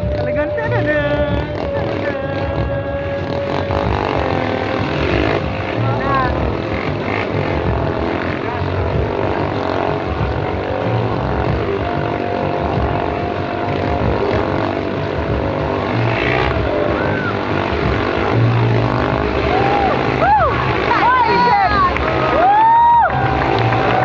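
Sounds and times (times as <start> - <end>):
motorcycle engines running loud: 0.0 - 24.0.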